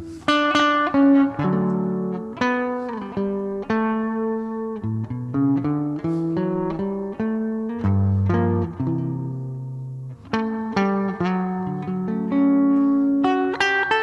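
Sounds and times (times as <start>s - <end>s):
slow solo guitar: 0.0s - 14.0s.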